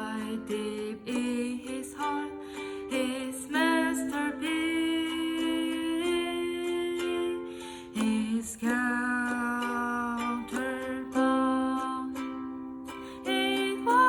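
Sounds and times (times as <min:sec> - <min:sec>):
person singing hymn melody: 0:00.0 - 0:14.0
ukulele: 0:00.0 - 0:14.0.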